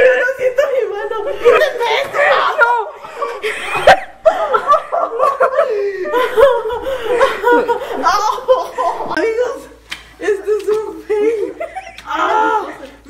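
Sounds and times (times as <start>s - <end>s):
young women laughing: 0.0s - 9.3s, 11.1s - 13.0s.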